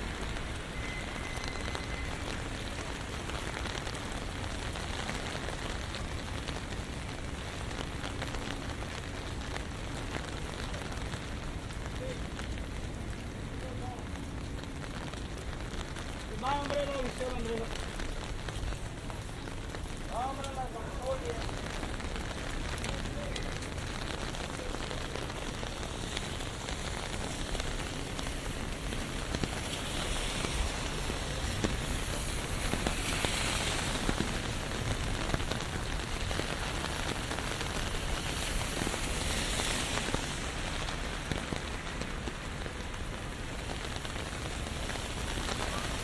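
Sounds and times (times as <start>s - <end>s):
rain on an umbrella and street: 0.0s - 46.0s.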